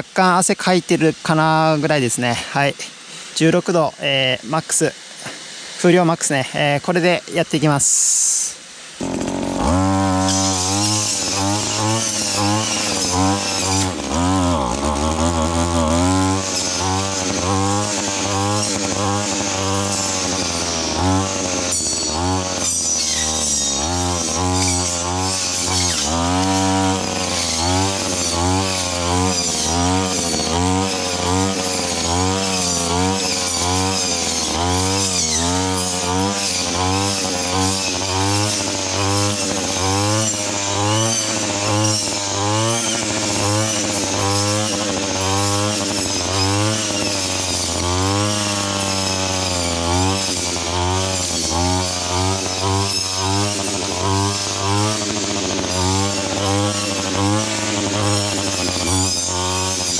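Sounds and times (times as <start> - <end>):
brush cutter engine: 0.0 - 59.9.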